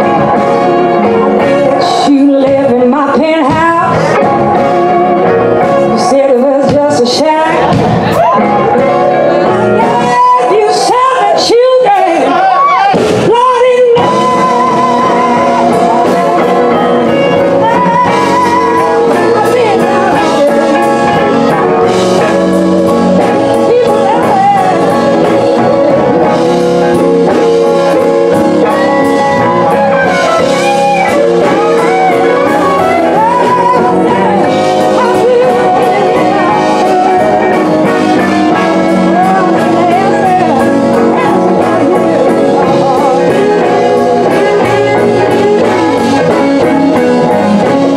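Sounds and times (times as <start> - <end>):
woman singing: 0.0 - 7.8, 9.4 - 47.9
live blues band: 0.0 - 47.9.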